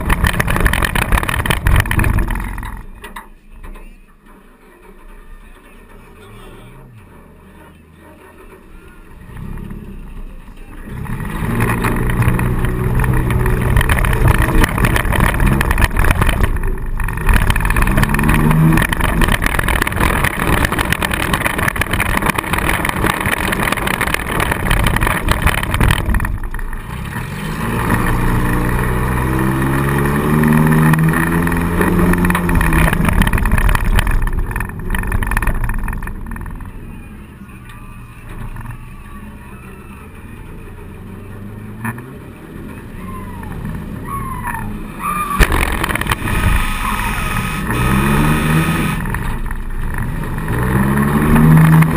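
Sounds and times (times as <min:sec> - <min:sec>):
car engine revving: 0:00.0 - 0:03.2, 0:04.6 - 0:51.9.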